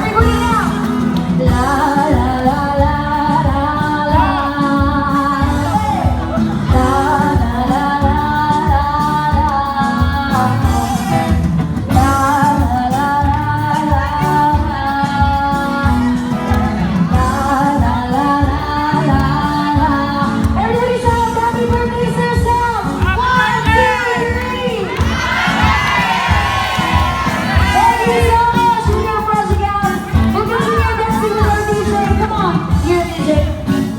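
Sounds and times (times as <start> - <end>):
live acoustic band playing: 0.0 - 33.9
woman singing: 0.0 - 33.9.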